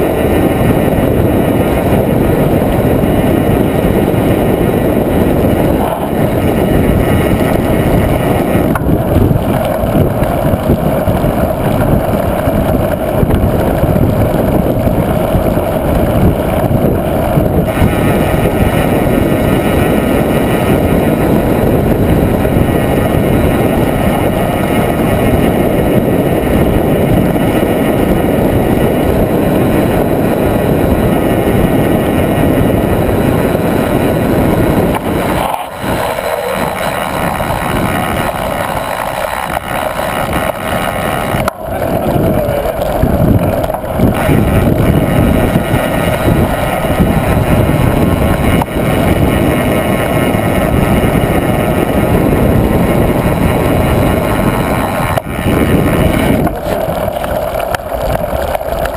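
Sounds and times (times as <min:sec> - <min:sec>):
bike tyres rumbling over dirt: 0:00.0 - 0:58.9
wind buffeting microphone: 0:00.0 - 0:58.9.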